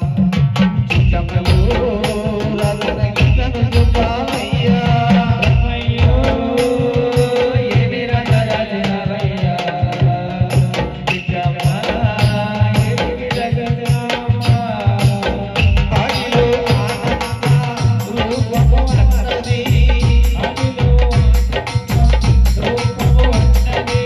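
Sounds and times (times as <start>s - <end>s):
fast hand drum beat: 0.0s - 24.0s
man singing into a microphone: 0.0s - 24.0s.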